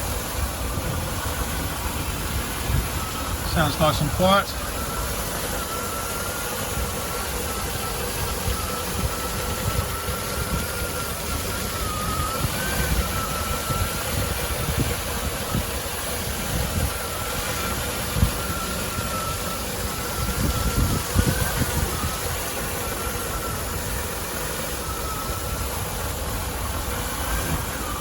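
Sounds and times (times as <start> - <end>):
engine idling: 0.0 - 28.0
thin steady whine: 0.0 - 28.0.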